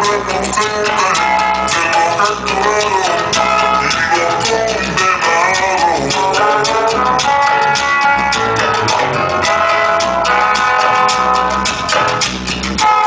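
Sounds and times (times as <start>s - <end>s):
latin dance music with brass: 0.0s - 13.0s.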